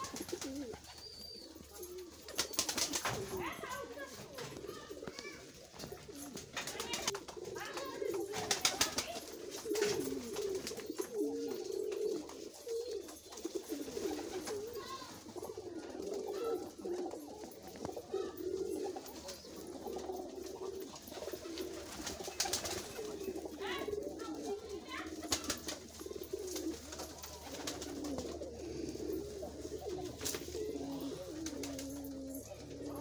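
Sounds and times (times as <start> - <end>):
wings flapping: 0.0 - 1.1, 1.8 - 11.2, 13.0 - 15.2, 17.7 - 32.4
pigeons cooing: 0.0 - 33.0.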